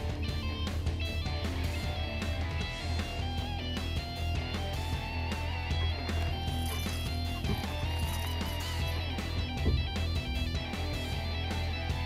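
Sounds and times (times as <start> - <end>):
instrumental music with electric guitar: 0.0 - 12.0.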